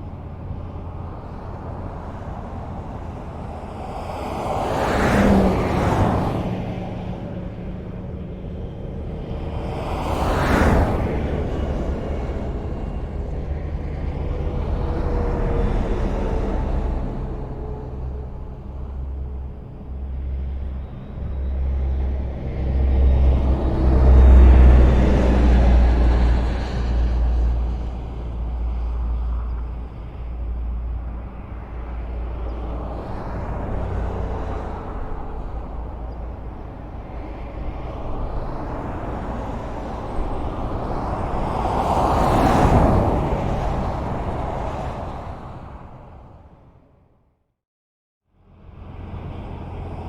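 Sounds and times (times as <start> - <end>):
vehicles passing by: 0.0 - 47.2, 48.4 - 50.0
highway traffic rumble: 0.0 - 47.4, 48.2 - 50.0.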